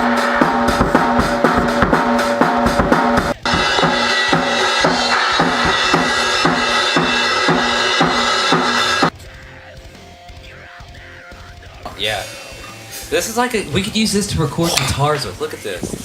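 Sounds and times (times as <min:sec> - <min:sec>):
rock music with drum kit: 0:00.0 - 0:16.0.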